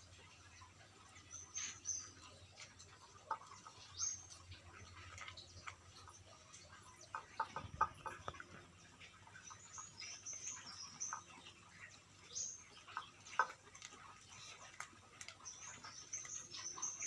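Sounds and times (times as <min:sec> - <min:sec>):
dogs chewing: 0:02.6 - 0:17.0.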